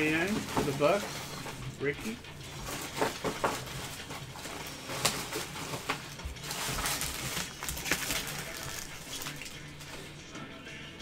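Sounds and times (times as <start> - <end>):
trading cards rustling: 0.0 - 10.0.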